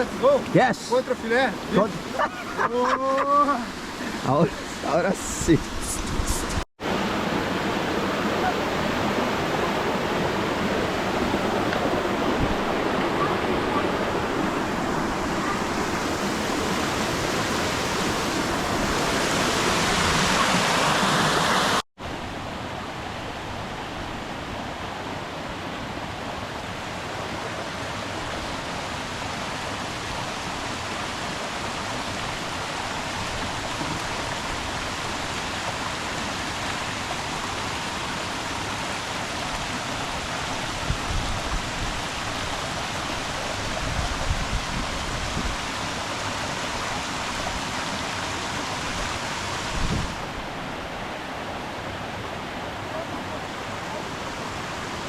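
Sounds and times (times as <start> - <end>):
waterfall rushing: 0.0 - 5.6, 6.5 - 55.0.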